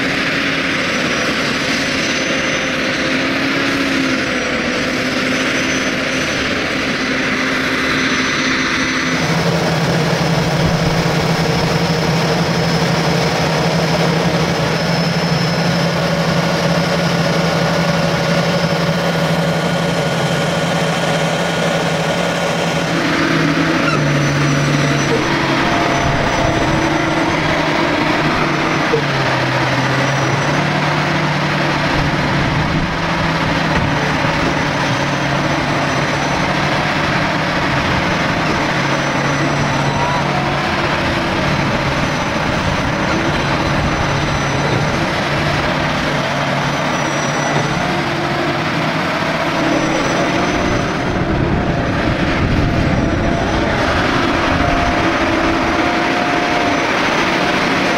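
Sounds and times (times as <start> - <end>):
diesel farm machinery droning: 0.0 - 57.9.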